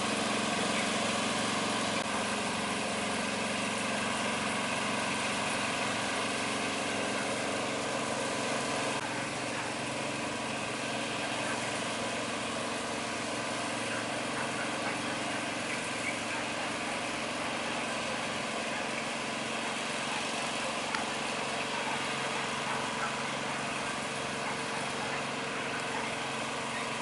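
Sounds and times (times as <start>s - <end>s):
construction machinery engine running: 0.0s - 27.0s.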